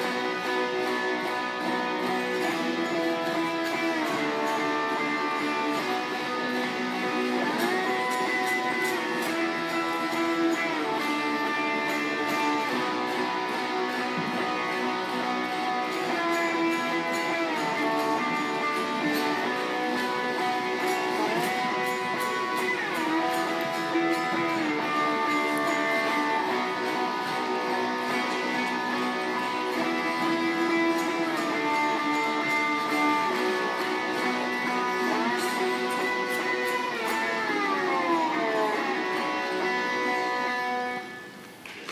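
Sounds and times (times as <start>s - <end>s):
cigar box guitars strummed: 0.0s - 41.8s
amplified guitar: 0.0s - 41.9s.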